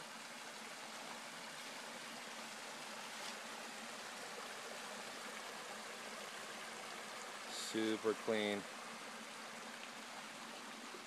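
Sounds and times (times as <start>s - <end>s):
small waterfall running: 0.0s - 11.0s.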